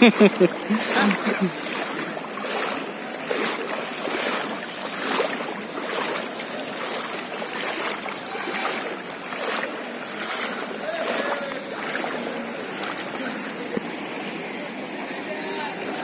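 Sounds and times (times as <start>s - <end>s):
floodwater sloshing and splashing: 0.0s - 16.0s.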